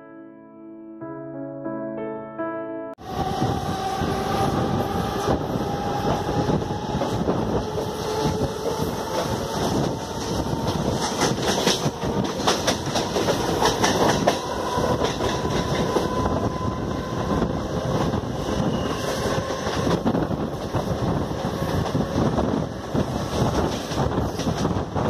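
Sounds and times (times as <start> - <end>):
electric train rumbling: 3.0 - 25.0.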